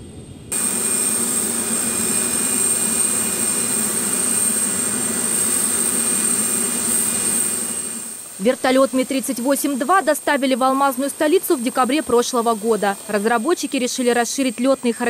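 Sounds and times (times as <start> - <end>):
aircraft turbine whine: 0.0 - 15.0.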